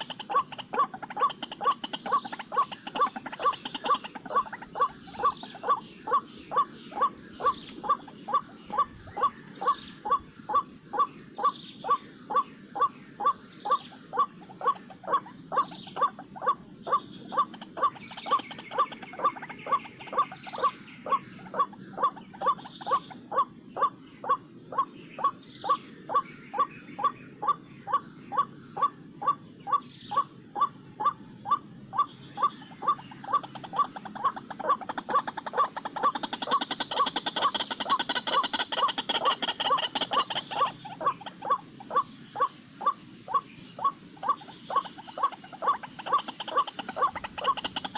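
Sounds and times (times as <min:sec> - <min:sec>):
waterhen croaking calls: 0:00.0 - 0:47.9.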